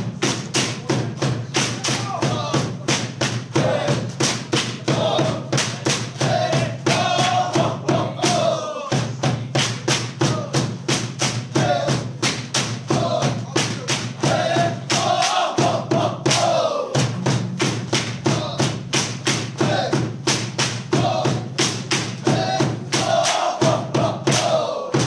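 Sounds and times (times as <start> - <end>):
drum: 0.0 - 25.0
group of voices chanting: 0.2 - 17.2, 18.0 - 25.0.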